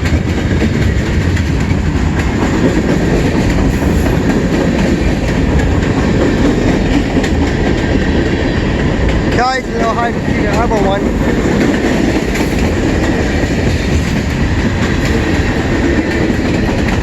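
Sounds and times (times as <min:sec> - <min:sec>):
train cars rumbling on rails: 0:00.0 - 0:17.0.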